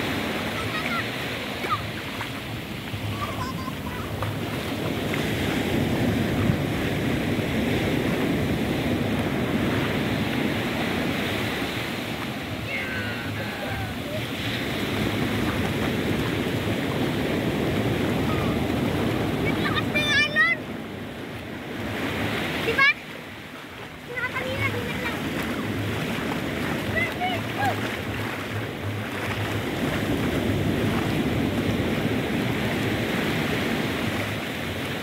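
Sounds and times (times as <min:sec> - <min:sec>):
ocean surf breaking on beach: 0:00.0 - 0:35.0.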